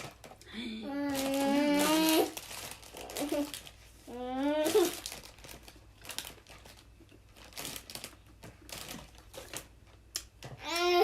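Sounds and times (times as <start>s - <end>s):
food packaging crinkling: 1.0s - 11.0s.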